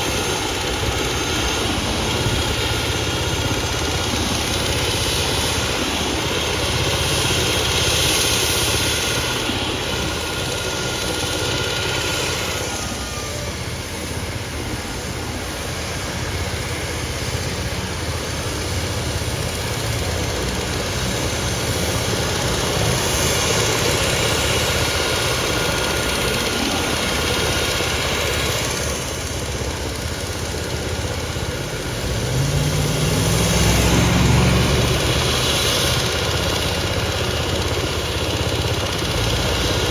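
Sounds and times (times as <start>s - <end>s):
engines rumbling with high whine: 0.0s - 39.9s
heavier low engine sound: 0.0s - 39.9s.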